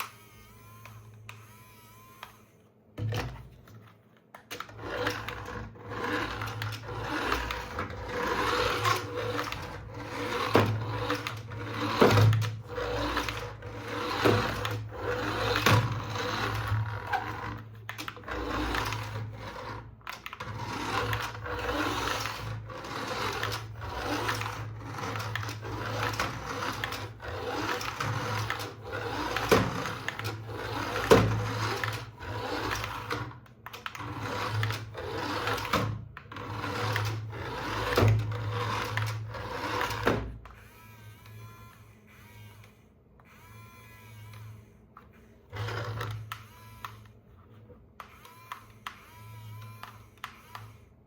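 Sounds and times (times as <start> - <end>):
toy motor and gears whirring: 0.0 - 2.7, 4.5 - 51.0.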